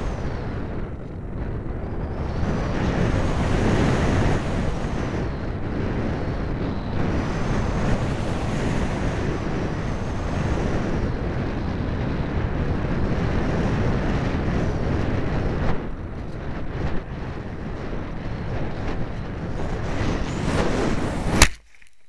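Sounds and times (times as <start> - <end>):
wind roaring over microphone: 0.0 - 21.6.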